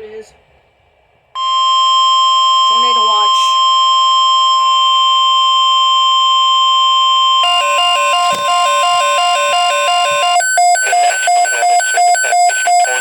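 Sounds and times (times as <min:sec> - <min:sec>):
steady high alarm tone: 0:01.4 - 0:13.0
warbling two-pitch alarm: 0:01.4 - 0:13.0.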